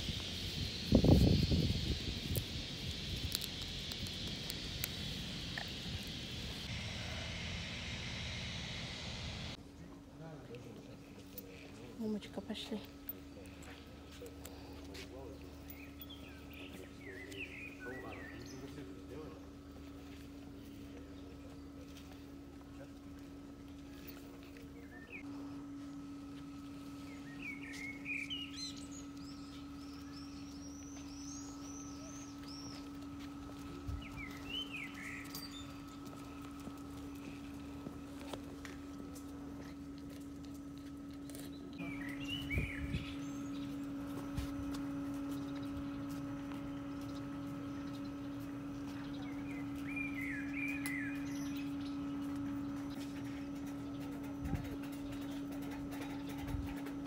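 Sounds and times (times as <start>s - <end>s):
songbird singing: 0.0s - 9.6s, 11.3s - 57.0s
steady hum: 0.0s - 57.0s.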